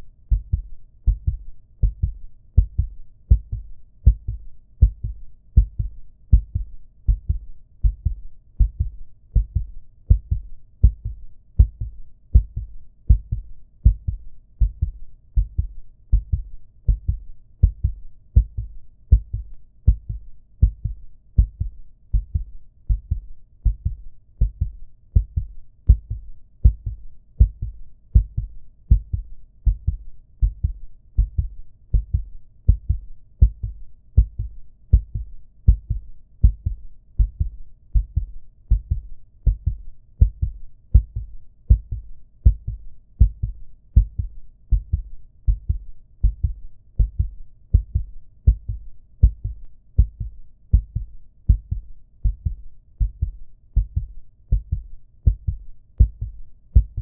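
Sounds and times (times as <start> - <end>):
heartbeat thumps: 0.0 - 57.0.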